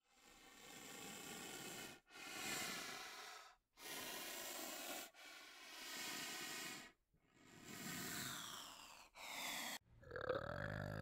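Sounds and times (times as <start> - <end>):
rhinoceros breathing out hissing: 0.1 - 9.8.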